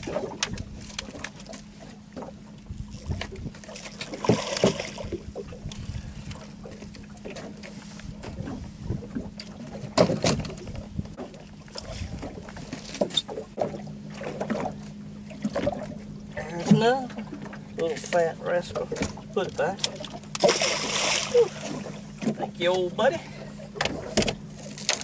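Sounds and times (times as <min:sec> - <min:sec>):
low hum: 0:00.0 - 0:25.0
water splashing against boat: 0:00.0 - 0:25.0.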